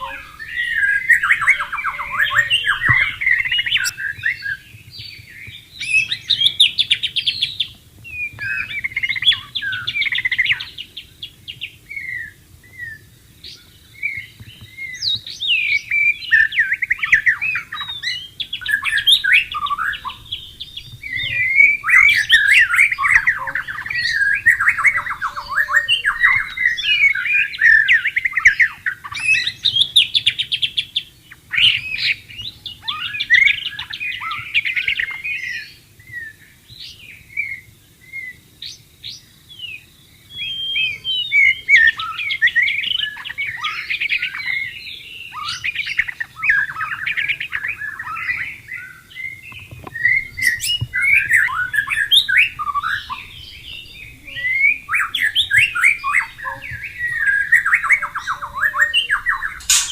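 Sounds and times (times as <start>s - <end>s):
bird singing whistles and trills: 0.0s - 59.9s.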